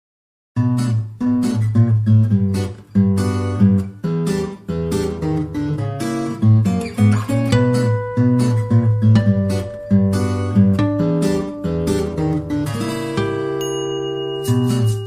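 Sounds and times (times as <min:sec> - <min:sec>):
acoustic guitar strumming: 0:00.6 - 0:15.0.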